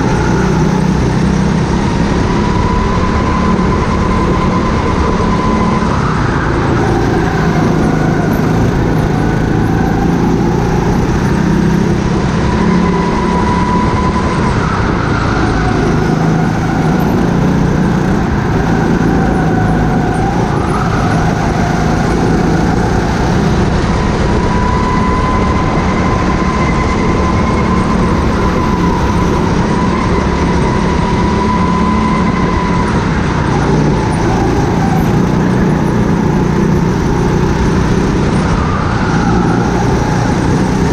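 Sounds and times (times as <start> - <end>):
go-kart engine whining: 0.0 - 40.9.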